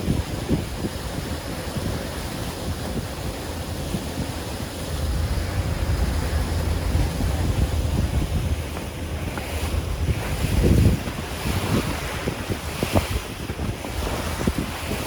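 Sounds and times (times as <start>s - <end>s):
lake water washing: 0.0s - 15.0s
wind buffeting microphone: 0.0s - 15.0s.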